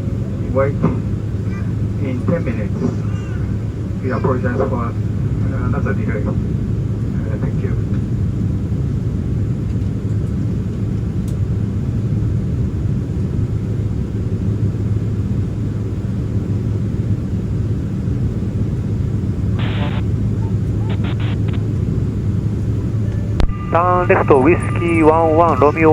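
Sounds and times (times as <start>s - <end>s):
aircraft cabin rumble: 0.0s - 25.9s.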